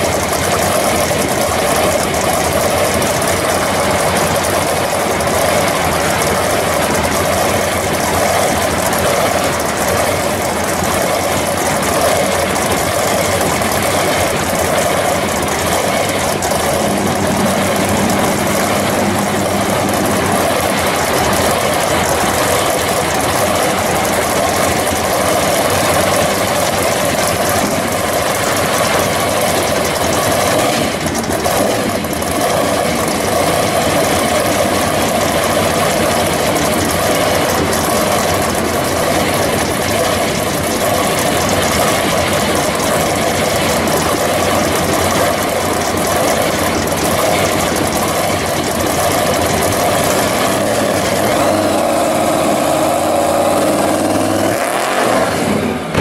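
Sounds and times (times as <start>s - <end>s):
truck engine idling and revving: 0.0s - 56.0s.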